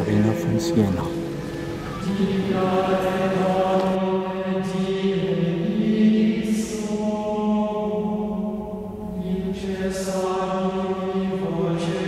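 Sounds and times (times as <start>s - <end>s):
slow chant with held notes: 0.0s - 12.0s.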